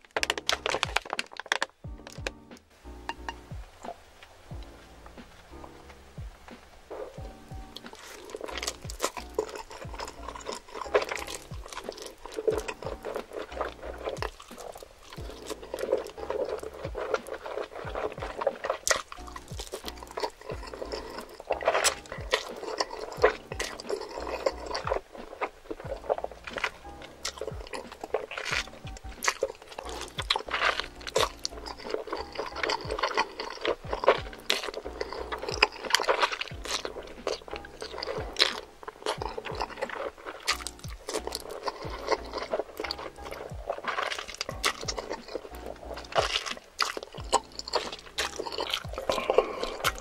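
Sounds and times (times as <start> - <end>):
slurping and chewing noodles: 0.0 - 50.0
soft background music: 0.2 - 50.0.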